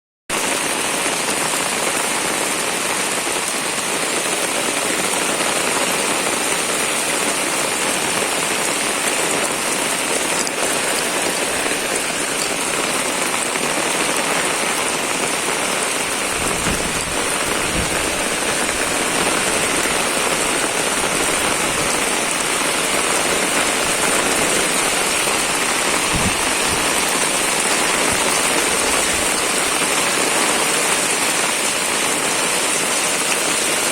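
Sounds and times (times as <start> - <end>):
heavy rain hissing: 0.4 - 33.9.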